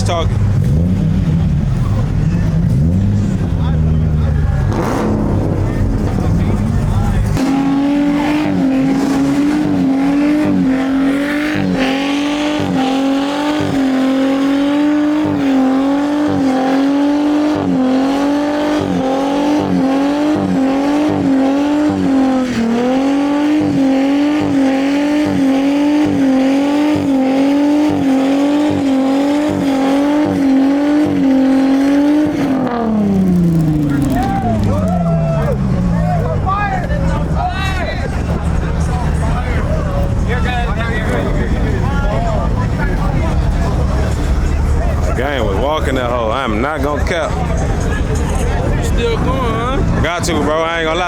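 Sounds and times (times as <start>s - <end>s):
car engine at high revs: 0.0s - 51.0s.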